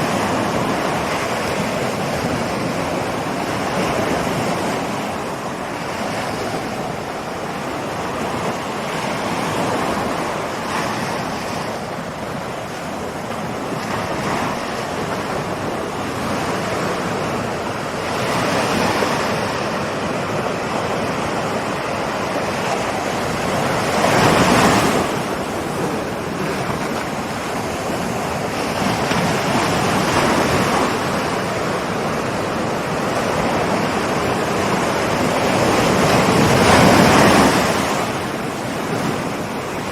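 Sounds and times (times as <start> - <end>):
ocean waves on shore: 0.0 - 39.9.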